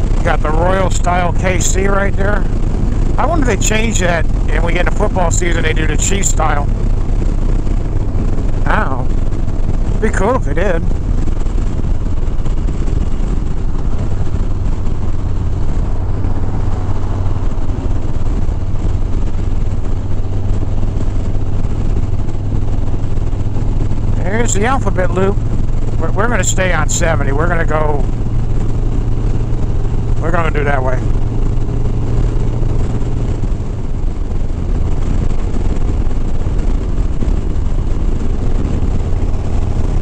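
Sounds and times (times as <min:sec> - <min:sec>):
motorcycle engine cruising: 0:00.0 - 0:40.0
wind rushing over microphone: 0:00.0 - 0:40.0.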